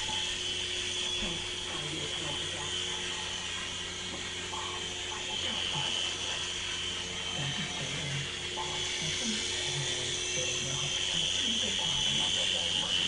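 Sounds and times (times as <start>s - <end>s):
toy helicopter motor whirring: 0.0s - 13.0s.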